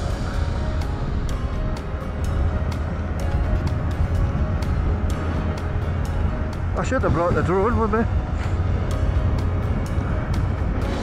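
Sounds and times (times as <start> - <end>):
motorcycle engine rumble: 0.0 - 11.0
music with steady beat: 0.0 - 11.0.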